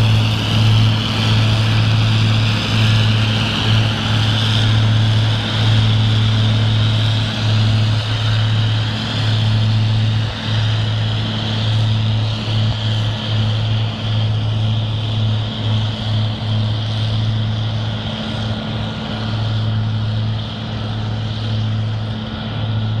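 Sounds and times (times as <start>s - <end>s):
heavy diesel engines droning: 0.0s - 23.0s.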